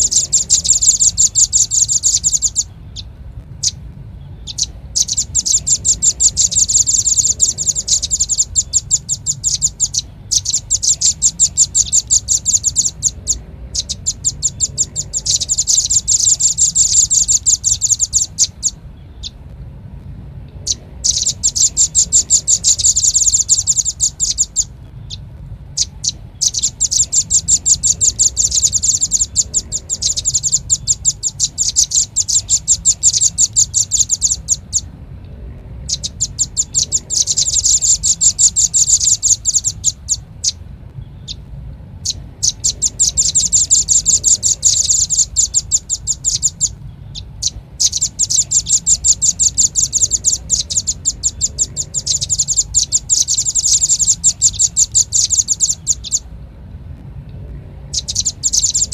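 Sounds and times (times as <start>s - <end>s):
bird calling in fast dry trills: 0.0s - 19.5s, 20.6s - 34.9s, 35.8s - 56.4s, 57.8s - 58.9s.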